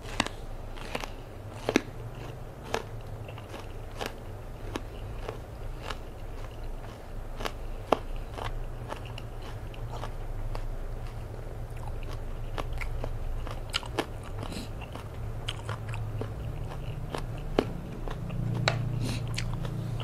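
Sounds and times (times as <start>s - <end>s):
chewing crunchy food: 0.0s - 20.0s
steady low hum: 0.0s - 20.0s.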